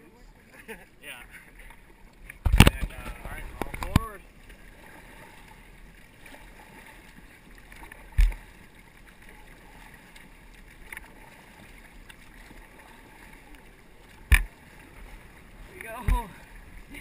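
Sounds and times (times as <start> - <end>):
paddles splashing in water: 0.0 - 17.0.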